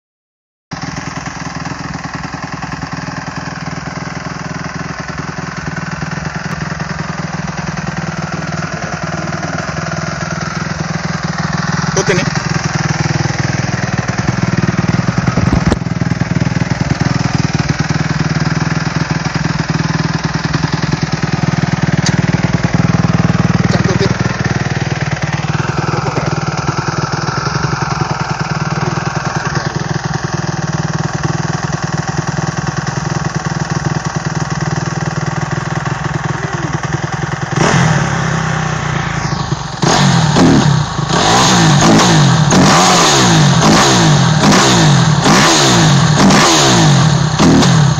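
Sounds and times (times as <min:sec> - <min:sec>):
motorcycle engine idling and revving: 0:00.7 - 0:47.9.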